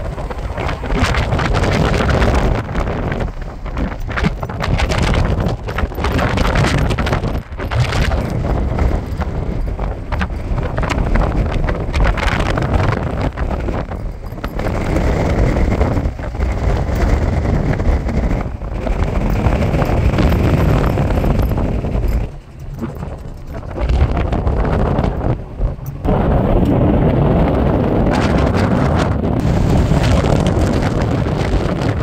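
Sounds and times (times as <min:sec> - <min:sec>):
road noise from moving car: 0:00.0 - 0:32.0
wind buffeting microphone: 0:00.0 - 0:32.0.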